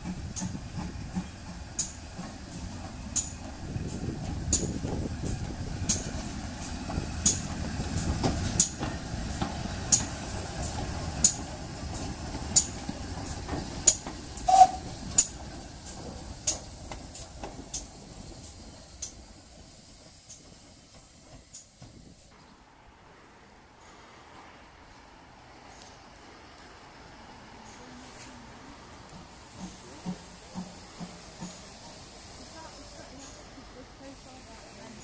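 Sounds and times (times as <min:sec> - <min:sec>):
train wheels clicking over rail joints: 0:00.0 - 0:22.3, 0:27.6 - 0:35.0
steam hissing: 0:00.0 - 0:22.4, 0:27.6 - 0:35.0
locomotive low rumble: 0:00.0 - 0:35.0.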